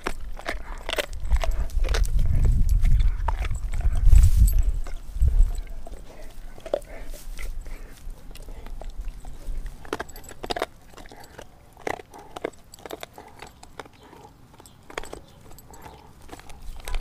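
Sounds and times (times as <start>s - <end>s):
dog gnawing on frozen bone: 0.0s - 17.0s.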